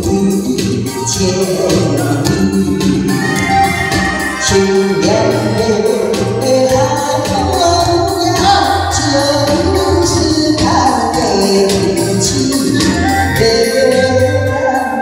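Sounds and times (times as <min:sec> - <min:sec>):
amplified keyboard backing track: 0:00.0 - 0:15.0.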